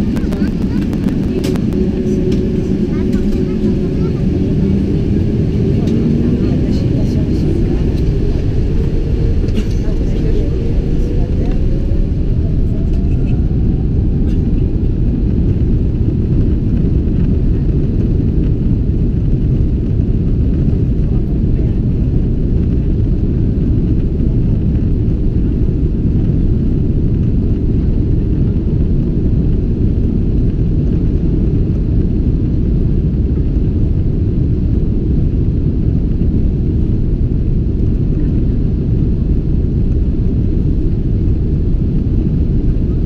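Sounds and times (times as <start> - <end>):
low rumble of taxiing airplane: 0.0 - 43.0.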